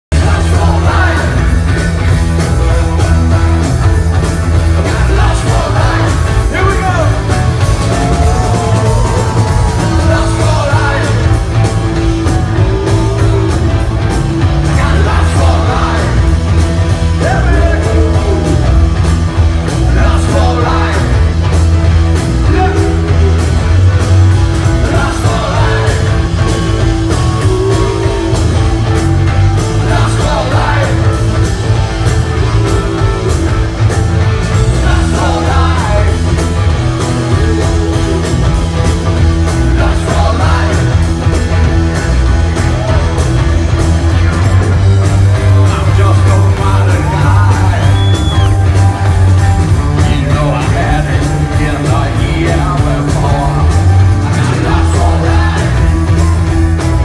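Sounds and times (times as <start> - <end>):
man singing: 0.1 - 21.6, 22.2 - 23.8, 24.5 - 42.0, 45.1 - 49.1, 49.8 - 56.6
live rock band playing: 0.1 - 57.0.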